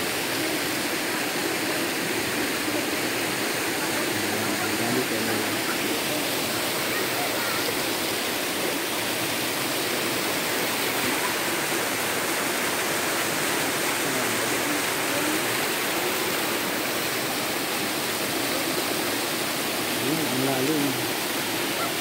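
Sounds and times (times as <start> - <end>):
waterfall pouring over rocks: 0.0 - 22.0.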